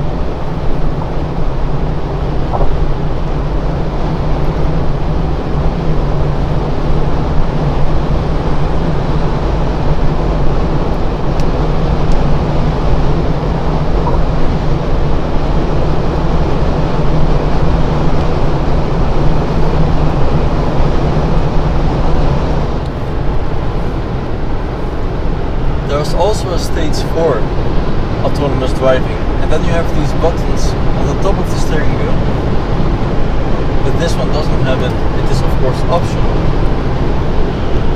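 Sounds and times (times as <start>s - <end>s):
constant low drone: 0.0s - 37.9s.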